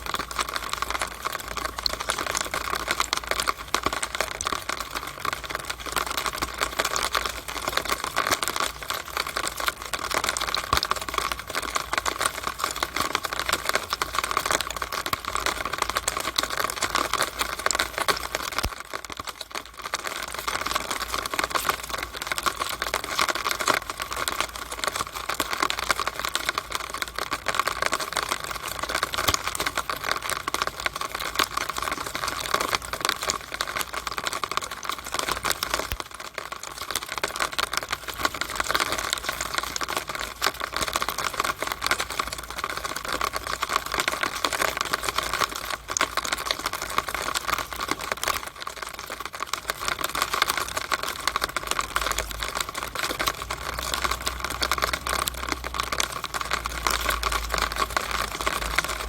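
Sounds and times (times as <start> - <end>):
rainwater dripping from downspout: 0.0 - 59.0.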